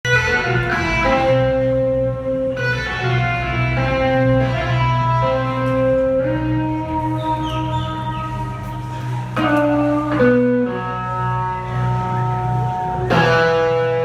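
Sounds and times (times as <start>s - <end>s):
rock band playing live: 0.1s - 7.7s, 9.1s - 14.0s
electric guitar sustained notes: 0.1s - 14.0s.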